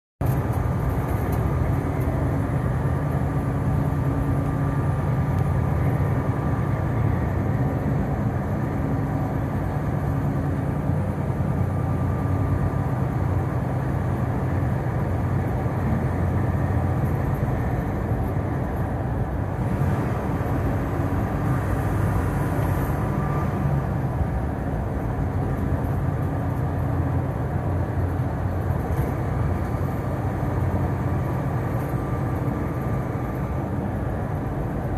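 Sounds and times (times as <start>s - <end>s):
diesel truck engine droning: 0.2s - 34.9s
tyre and road noise: 0.2s - 34.9s.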